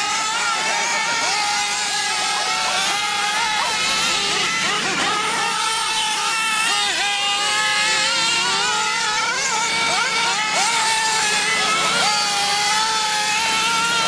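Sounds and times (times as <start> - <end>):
small engines revving high: 0.0 - 14.0.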